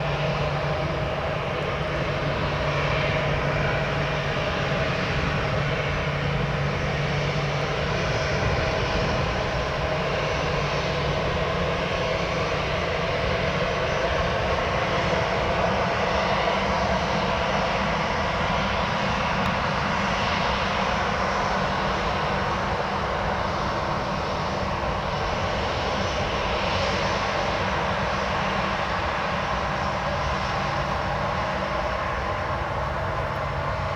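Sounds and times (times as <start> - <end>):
jet engines humming: 0.0 - 33.9.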